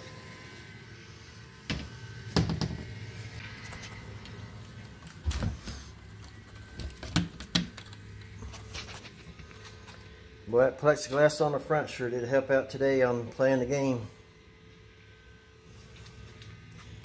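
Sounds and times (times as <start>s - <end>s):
electrical hum of machine: 0.0s - 17.0s.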